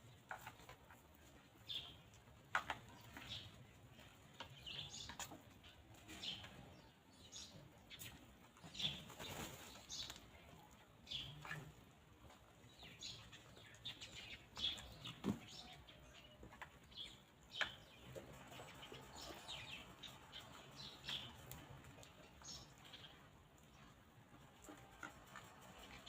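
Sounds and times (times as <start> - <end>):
chickens clucking: 0.0 - 26.0
chickens pecking: 0.0 - 26.0
chicks chirping: 0.1 - 11.9, 12.5 - 26.0.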